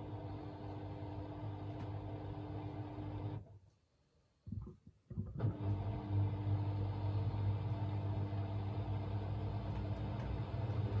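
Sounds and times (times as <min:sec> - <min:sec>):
washing machine humming: 0:00.0 - 0:03.5, 0:05.1 - 0:11.0.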